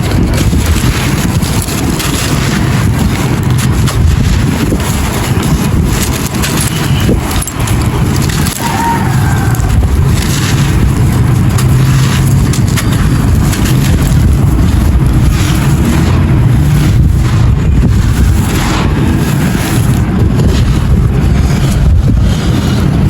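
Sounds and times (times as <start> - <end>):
clay pieces crunching: 0.0 - 23.0
low rumble: 0.0 - 23.0.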